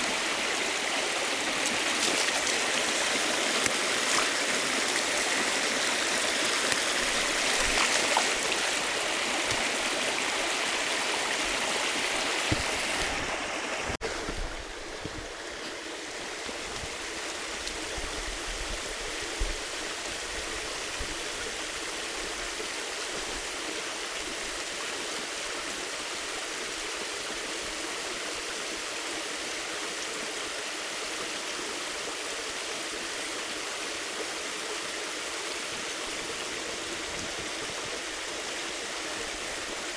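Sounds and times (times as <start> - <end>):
river water rushing and gurgling: 0.0 - 39.9.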